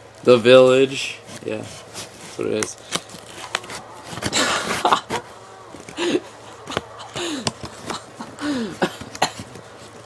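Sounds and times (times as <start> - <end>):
clicks and rustles: 1.2 - 6.0, 6.6 - 10.0.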